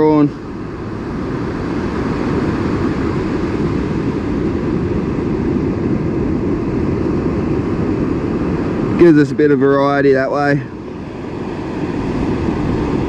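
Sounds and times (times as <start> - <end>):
wind and surf roar: 0.0 - 13.0.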